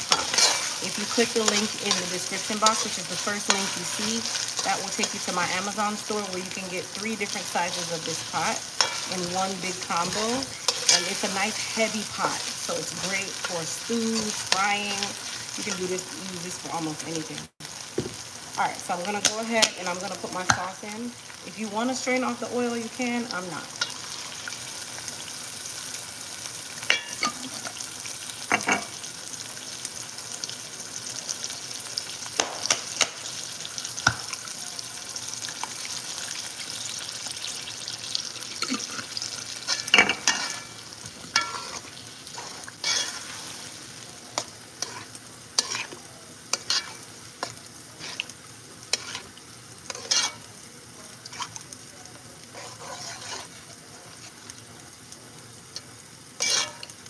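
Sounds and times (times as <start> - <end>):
tomato sauce sizzling in hot pot: 0.0 - 57.0.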